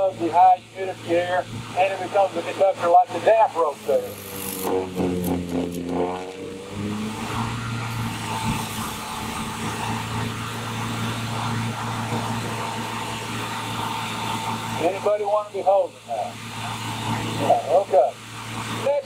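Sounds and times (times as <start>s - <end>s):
electrical arcing buzz and hum: 0.8s - 19.0s.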